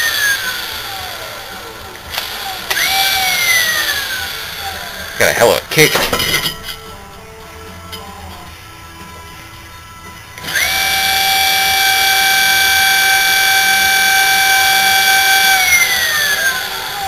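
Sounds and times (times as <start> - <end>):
electric motor whining: 0.0 - 5.3, 7.0 - 17.0.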